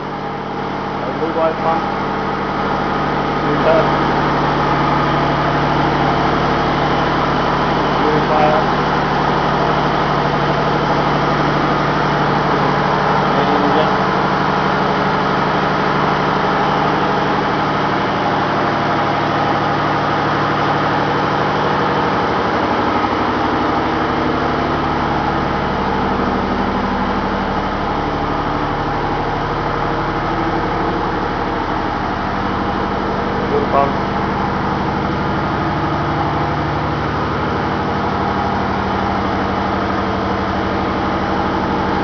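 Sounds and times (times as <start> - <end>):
ship engine room machinery hum: 0.0 - 42.0.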